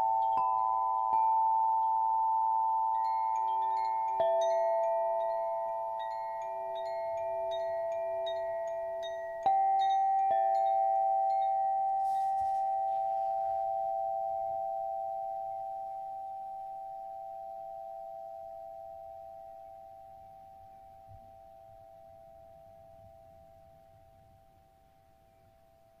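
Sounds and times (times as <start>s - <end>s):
crystal instruments ringing: 0.0s - 26.0s.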